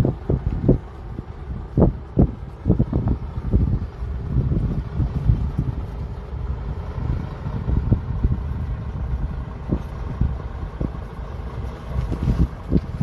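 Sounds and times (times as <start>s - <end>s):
diesel engines rumbling: 0.0s - 13.0s
wind buffeting microphone: 0.0s - 13.0s.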